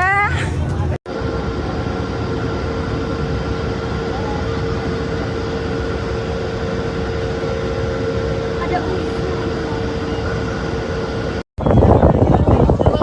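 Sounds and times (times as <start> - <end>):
mechanical drone hum: 0.0 - 11.4.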